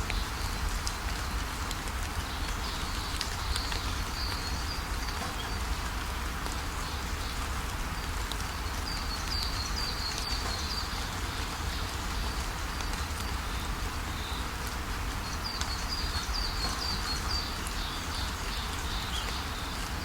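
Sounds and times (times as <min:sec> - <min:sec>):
small birds chirping: 0:00.0 - 0:05.8, 0:06.6 - 0:20.0.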